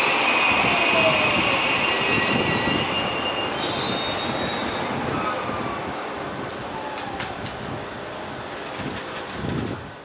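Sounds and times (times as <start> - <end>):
train wheels rumbling on track: 0.0 - 10.0
high wheel squeal: 0.2 - 9.6.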